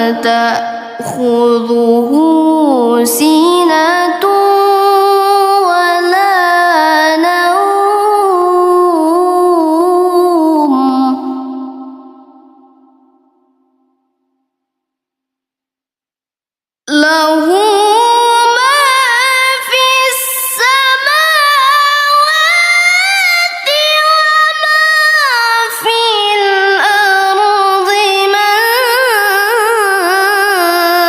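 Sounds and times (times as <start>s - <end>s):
high-voiced person reciting melodically: 0.0s - 13.4s, 16.9s - 31.0s.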